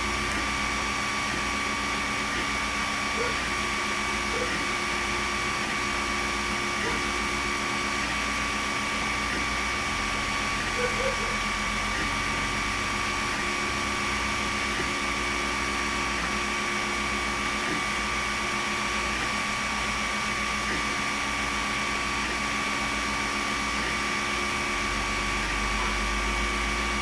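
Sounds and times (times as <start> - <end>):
printer fans humming with high whine: 0.0 - 27.0
stepper motors whining: 0.0 - 27.0.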